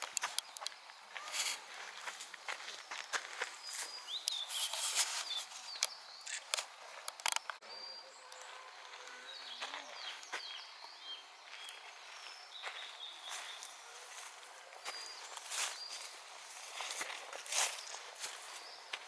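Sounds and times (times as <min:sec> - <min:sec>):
footsteps crunching on a path: 0:00.0 - 0:07.5, 0:08.4 - 0:19.0
small birds chirping: 0:00.0 - 0:19.0.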